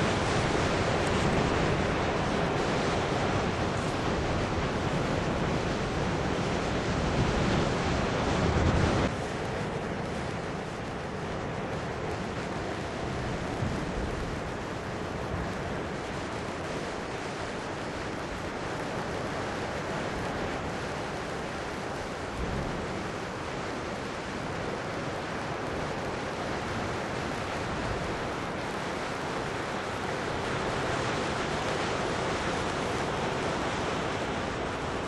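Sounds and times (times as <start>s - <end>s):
ocean surf washing: 0.0s - 35.0s.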